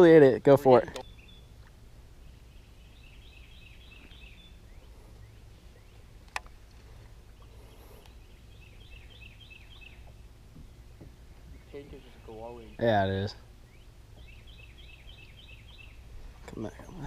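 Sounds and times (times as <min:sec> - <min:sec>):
faint bird song: 0:00.0 - 0:17.0
low steady hum: 0:00.0 - 0:17.0.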